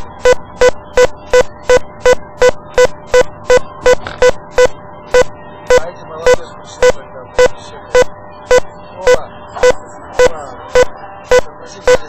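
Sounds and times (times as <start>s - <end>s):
rapid electronic beeps: 0.0s - 12.0s.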